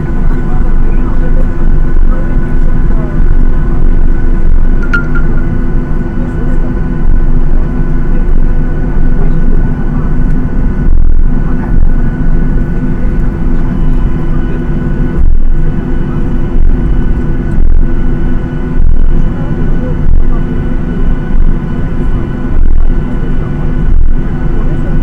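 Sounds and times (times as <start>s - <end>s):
jet engine rumble and whine: 0.0s - 25.0s.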